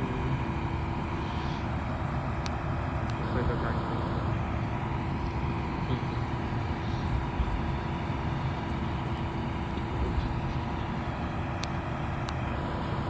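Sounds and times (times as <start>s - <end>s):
faint constant hum: 0.0s - 13.0s
vehicle engine rumble: 0.0s - 13.0s.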